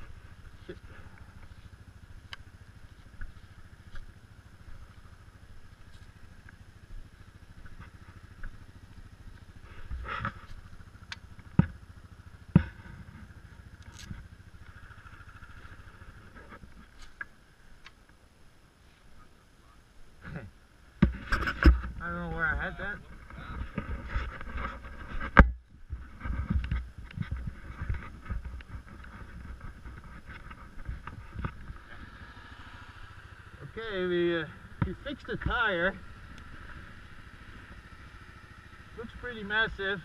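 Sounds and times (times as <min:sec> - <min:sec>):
atv engine idling: 0:00.0 - 0:40.0.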